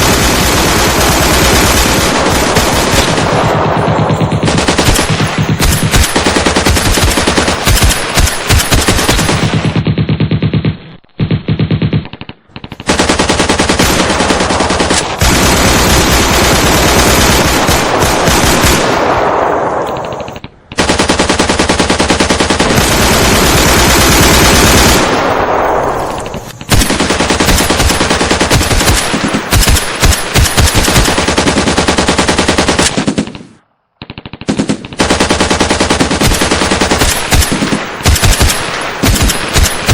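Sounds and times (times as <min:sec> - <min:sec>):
automatic machine-gun fire: 0:00.0 - 0:09.9, 0:12.8 - 0:33.3, 0:34.2 - 0:39.9.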